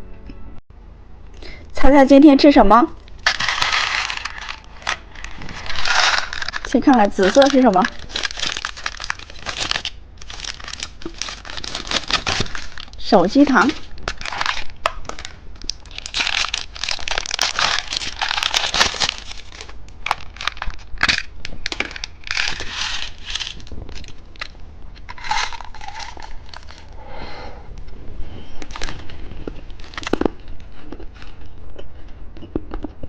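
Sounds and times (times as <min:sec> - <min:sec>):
plastic packaging crinkling: 0:03.0 - 0:27.0, 0:28.5 - 0:31.6.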